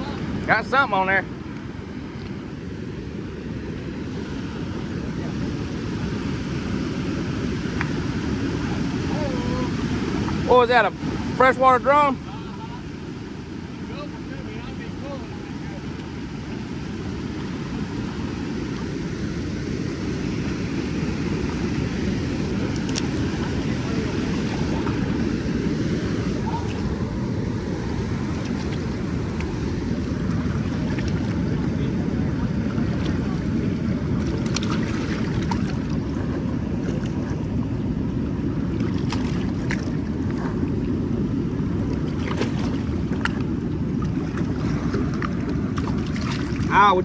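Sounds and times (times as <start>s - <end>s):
river water rushing: 0.0s - 47.0s
wind buffeting microphone: 0.0s - 47.0s.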